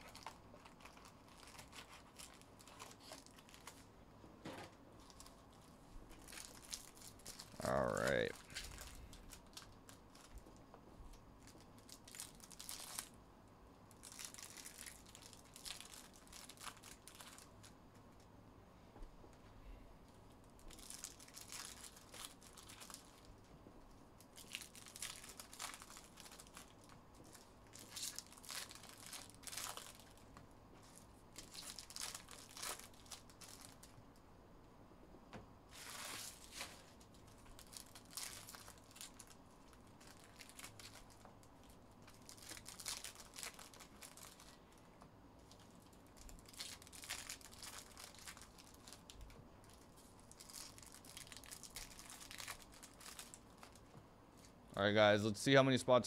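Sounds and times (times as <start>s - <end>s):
foil wrappers crinkling and tearing: 0.0s - 3.9s, 5.0s - 13.2s, 13.9s - 17.8s, 20.5s - 23.4s, 24.2s - 34.0s, 35.7s - 44.8s, 45.4s - 54.6s.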